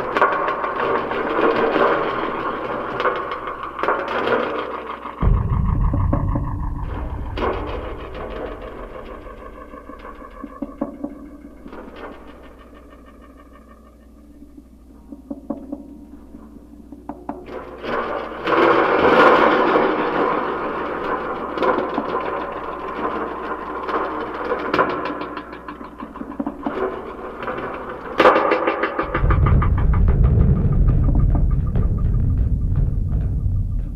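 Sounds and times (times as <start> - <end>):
experimental noise music: 0.0 - 33.9.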